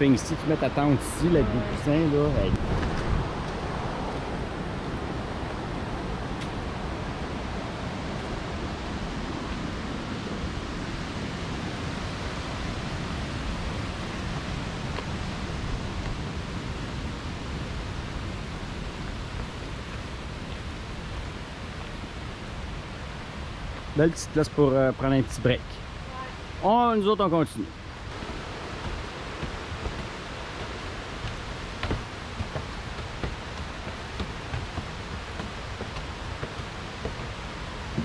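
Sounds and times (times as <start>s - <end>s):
river water rushing over rocks: 0.0s - 24.2s, 27.6s - 38.0s.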